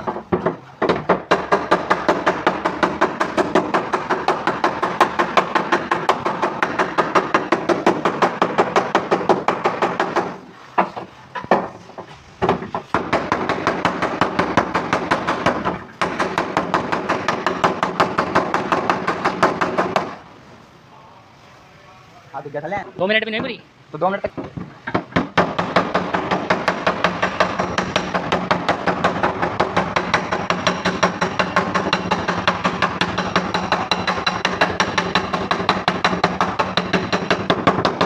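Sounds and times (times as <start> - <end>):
hammer tapping on sheet metal: 0.0 - 11.7, 12.4 - 20.2, 24.3 - 38.0.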